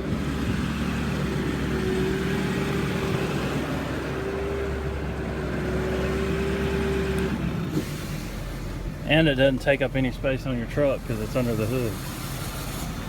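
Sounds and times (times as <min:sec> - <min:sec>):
diesel engine low hum: 0:00.0 - 0:13.0.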